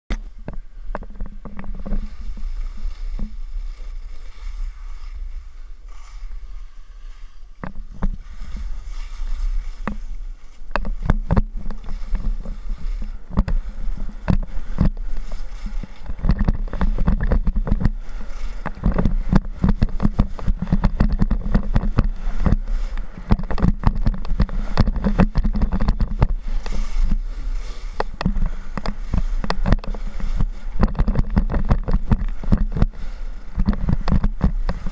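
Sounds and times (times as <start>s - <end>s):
wind rumbling on microphone: 0.1s - 34.9s
skis scraping over packed snow: 0.2s - 34.9s.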